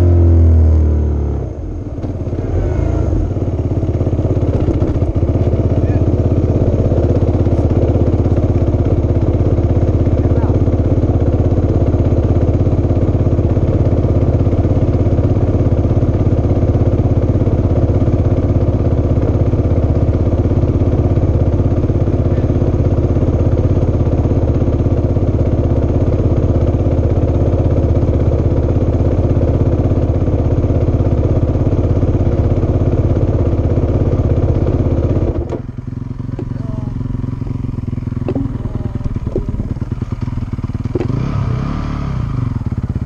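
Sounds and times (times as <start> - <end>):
motorcycle engine idling: 1.4 - 43.0.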